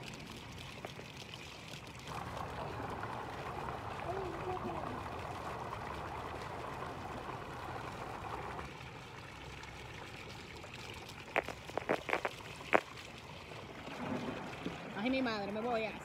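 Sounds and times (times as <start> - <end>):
pool water trickling and lapping: 0.0 - 16.0.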